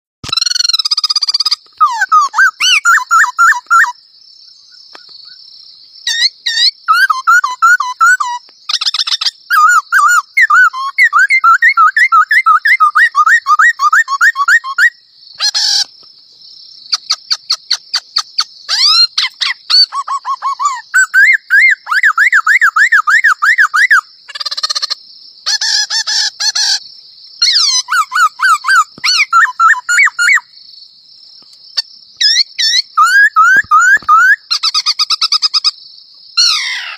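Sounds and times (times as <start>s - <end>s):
songbird singing: 0.2s - 36.9s.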